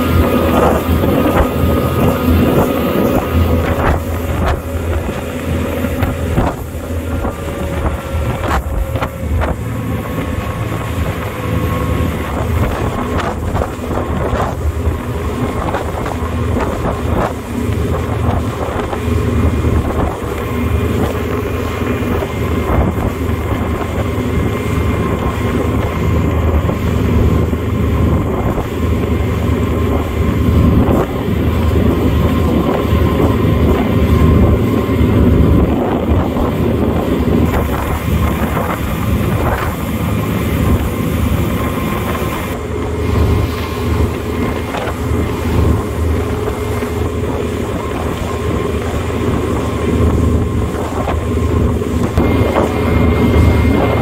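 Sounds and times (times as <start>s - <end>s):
motorboat engine running: 0.0s - 54.0s
wind on microphone: 0.0s - 54.0s.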